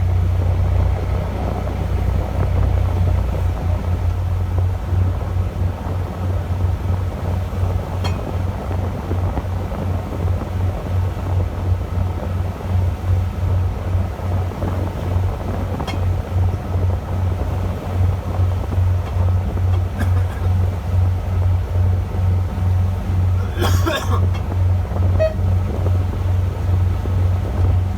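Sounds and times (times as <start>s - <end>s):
boat engine pulsing hum: 0.0s - 27.9s
sea noise: 0.0s - 27.9s
wind: 0.0s - 27.9s.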